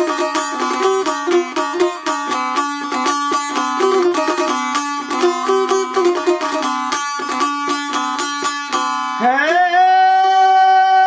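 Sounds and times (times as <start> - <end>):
plucked string instrument: 0.0 - 9.7.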